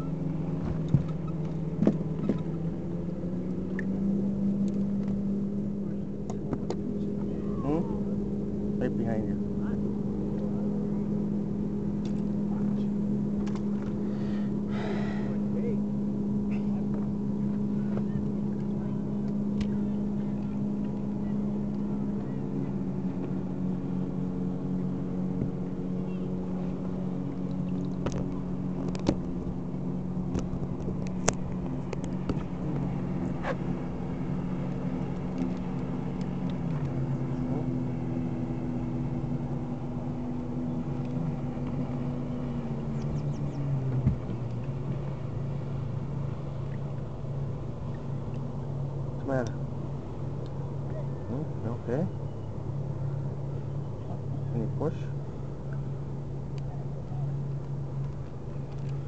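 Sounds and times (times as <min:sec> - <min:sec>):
boat motor running: 0:00.0 - 0:59.0.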